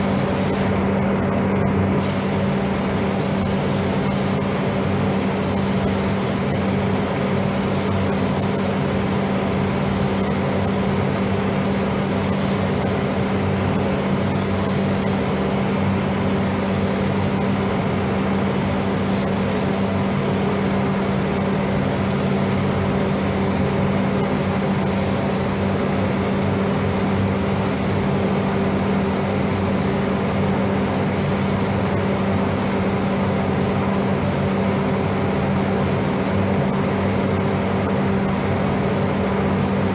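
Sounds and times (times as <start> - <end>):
ventilation fans running: 0.0 - 39.9.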